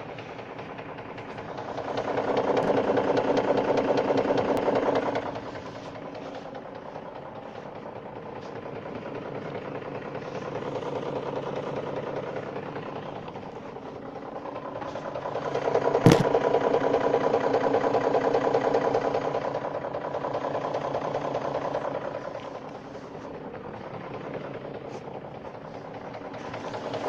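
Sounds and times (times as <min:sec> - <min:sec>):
engine running with fast knock: 0:00.0 - 0:27.0.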